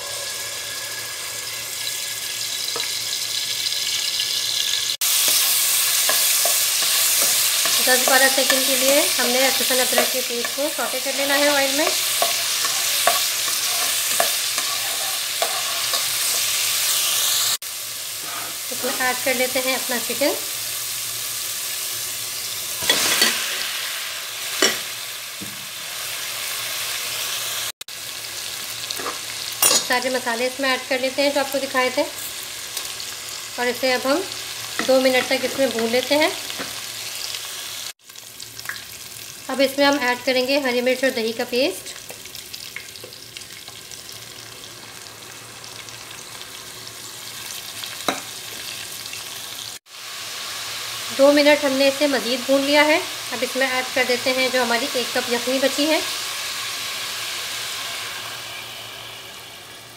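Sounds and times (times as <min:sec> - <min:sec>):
oil sizzling in a pot: 0:00.0 - 0:59.9.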